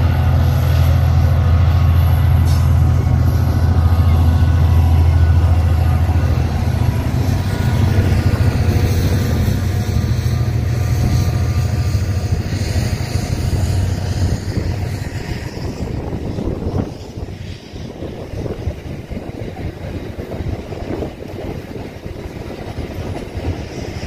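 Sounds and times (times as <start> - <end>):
diesel locomotive engine hum: 0.0 - 24.0.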